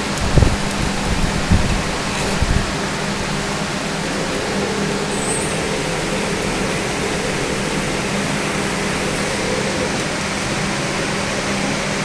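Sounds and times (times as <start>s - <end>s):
machinery hiss and low hum: 0.0s - 12.0s.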